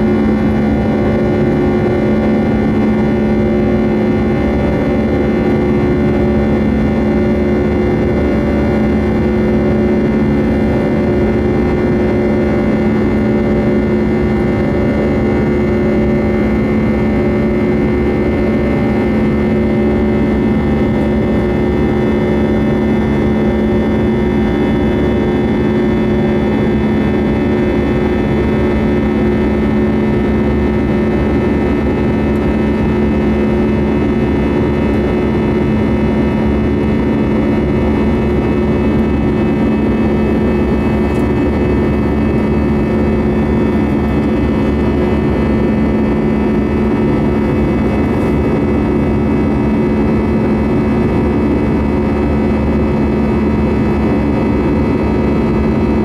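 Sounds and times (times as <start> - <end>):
jet engine cabin drone: 0.0 - 56.0.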